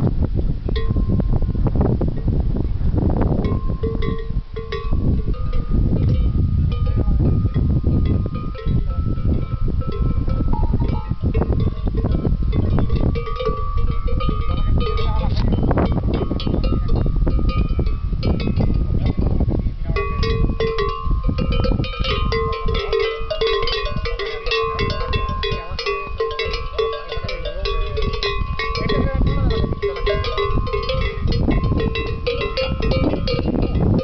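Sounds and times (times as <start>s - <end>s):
cowbells clanking: 0.8s - 1.6s, 3.4s - 34.0s.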